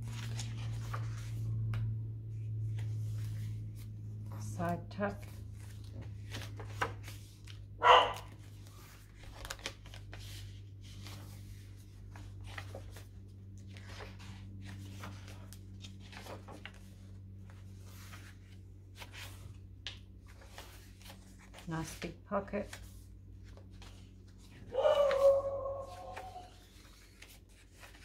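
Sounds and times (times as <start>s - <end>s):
paper pages rustling: 0.0s - 28.0s.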